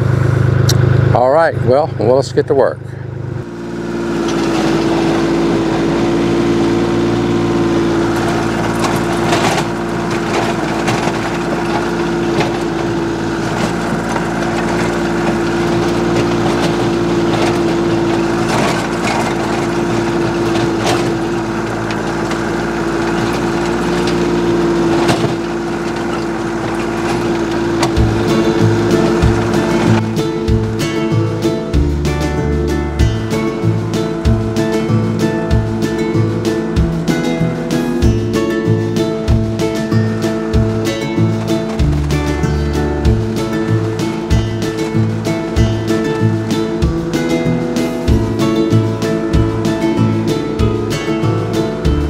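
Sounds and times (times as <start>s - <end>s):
tractor diesel engine running: 0.0s - 52.0s
tiller knocks: 3.4s - 52.0s.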